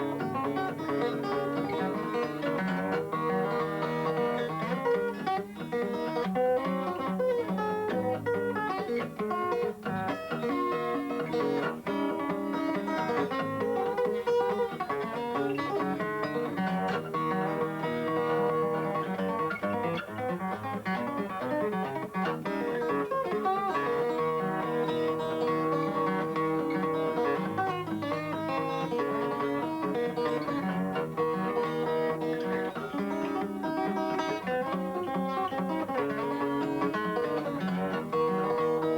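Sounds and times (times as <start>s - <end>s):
plucked guitar tune: 0.0s - 38.9s.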